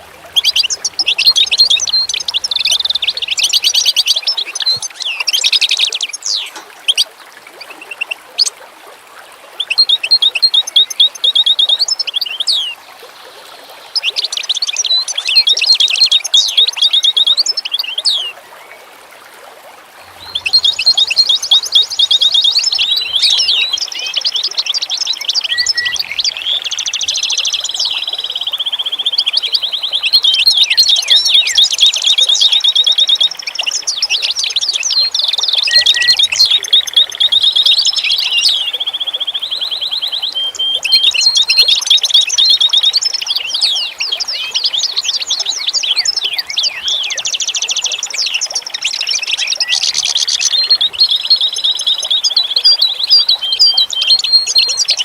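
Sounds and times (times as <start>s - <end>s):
songbirds chirping and trilling: 0.0s - 8.5s, 9.6s - 18.4s, 20.0s - 55.0s.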